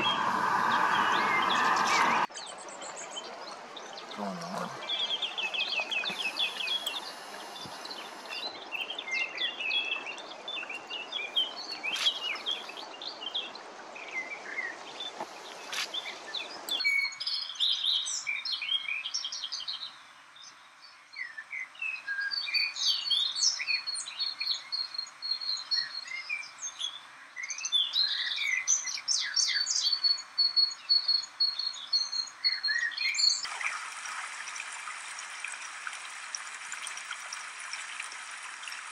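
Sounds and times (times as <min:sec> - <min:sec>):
songbirds chirping and trilling: 0:00.0 - 0:33.5.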